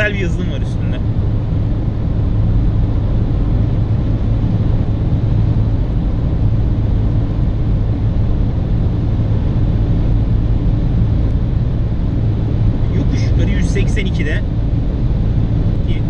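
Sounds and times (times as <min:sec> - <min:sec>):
car engine low drone: 0:00.0 - 0:16.0.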